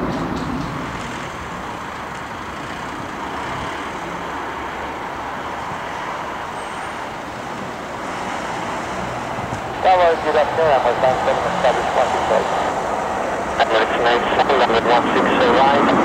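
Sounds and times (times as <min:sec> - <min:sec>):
distant engines rushing: 0:00.0 - 0:16.0.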